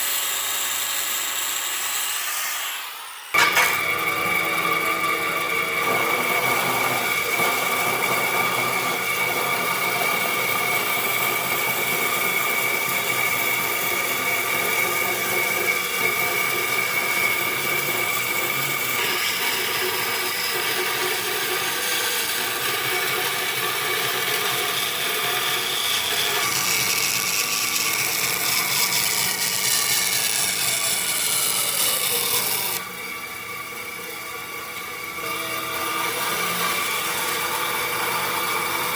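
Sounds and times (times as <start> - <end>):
woodworking power tool whining: 0.0 - 38.9.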